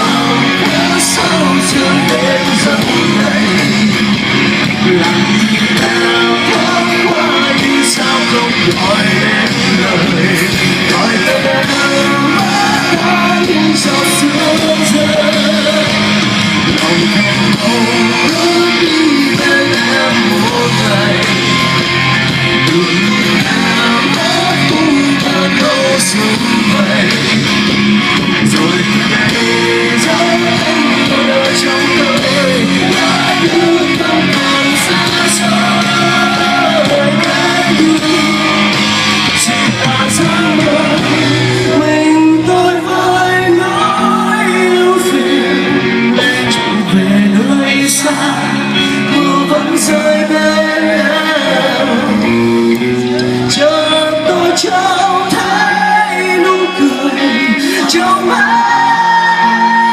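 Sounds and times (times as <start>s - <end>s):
electric guitar: 0.0s - 59.9s
person singing: 0.0s - 59.9s
rock band playing: 0.0s - 59.9s.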